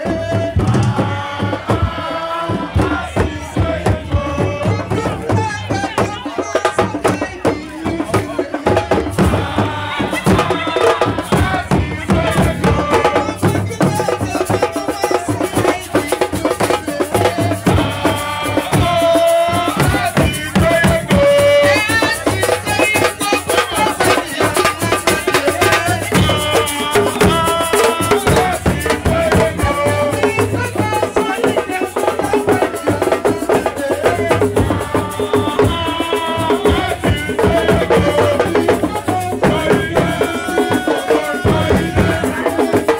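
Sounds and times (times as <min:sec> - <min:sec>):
rattles and drums beat: 0:00.0 - 0:42.9
voices singing: 0:00.0 - 0:42.9.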